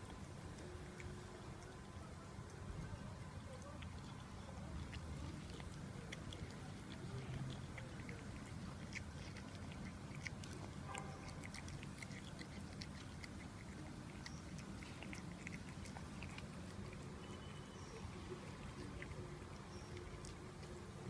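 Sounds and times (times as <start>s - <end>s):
cat chewing food: 0.0s - 21.0s.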